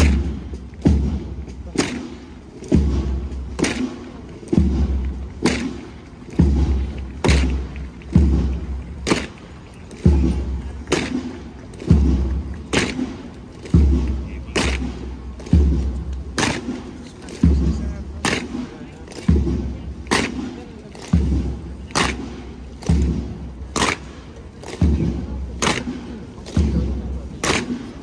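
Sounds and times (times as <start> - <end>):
bass drum marching beat: 0.0 - 28.0
clogs striking road: 0.0 - 28.0.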